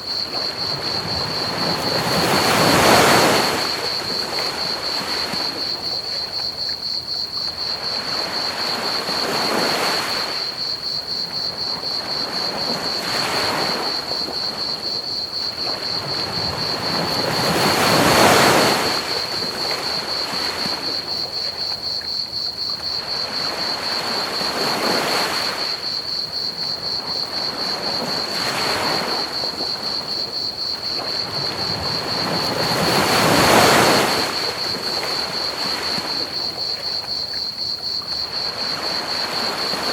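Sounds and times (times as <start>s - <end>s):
cricket trill: 0.0s - 39.9s
ocean waves washing onto beach: 0.0s - 39.9s.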